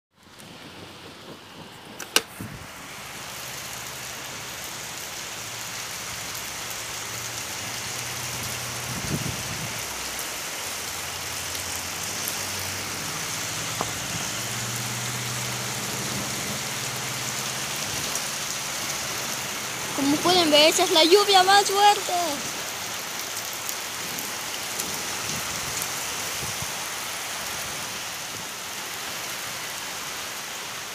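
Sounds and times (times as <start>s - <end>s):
heavy rain pouring: 0.2s - 30.9s.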